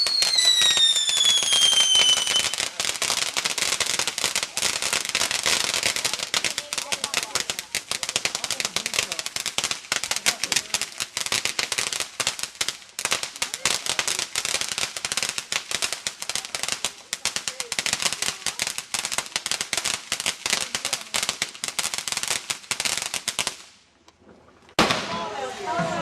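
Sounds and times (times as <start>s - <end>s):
firecrackers popping: 0.0s - 25.6s.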